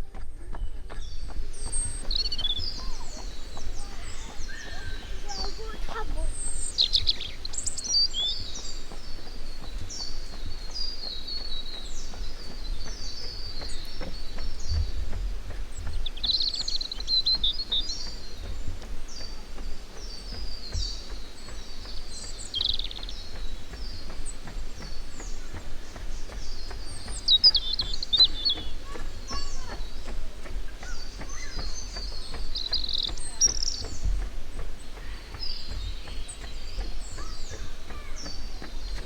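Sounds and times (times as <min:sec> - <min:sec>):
birds singing: 0:00.0 - 0:39.0
steady low rumble: 0:00.0 - 0:39.0.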